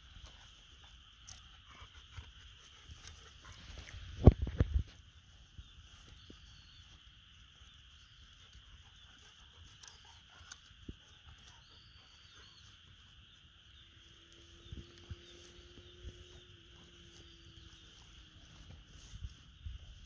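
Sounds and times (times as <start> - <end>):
faint steady hum: 0.0 - 20.0
steady high hiss: 0.0 - 20.0.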